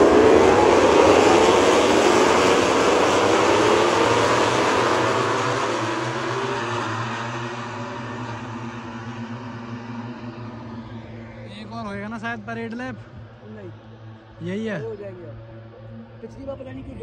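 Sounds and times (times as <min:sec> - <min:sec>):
racing motorcycles passing: 0:00.0 - 0:16.8.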